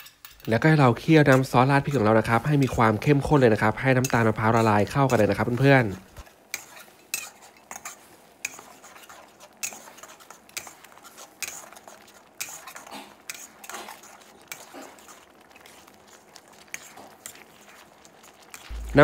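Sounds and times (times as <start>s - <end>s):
metal ladle scraping a pan: 0.0s - 19.0s
sauce simmering: 0.6s - 19.0s.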